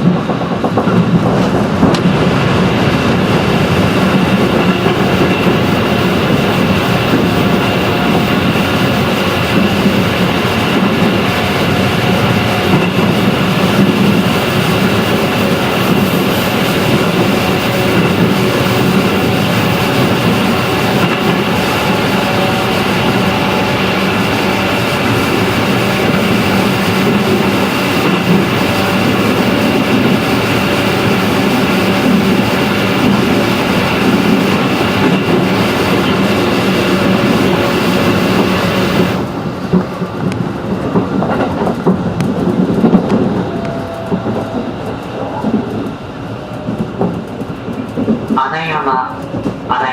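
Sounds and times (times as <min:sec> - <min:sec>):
wheels rumbling on rails: 0:00.0 - 0:49.9.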